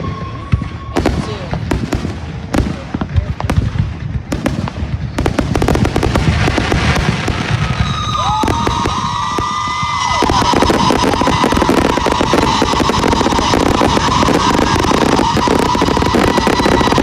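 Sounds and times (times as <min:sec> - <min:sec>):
shrill firework whistling: 0:00.0 - 0:02.0, 0:05.2 - 0:17.0
fireworks popping and crackling: 0:00.0 - 0:17.0.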